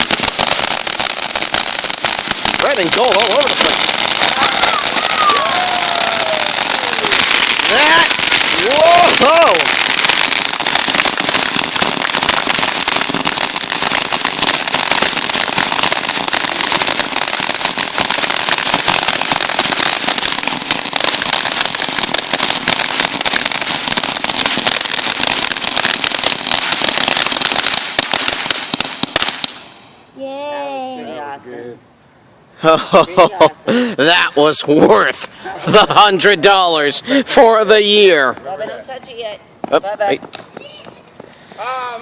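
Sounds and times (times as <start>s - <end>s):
fireworks crackling and popping: 0.0s - 31.8s, 32.5s - 42.0s.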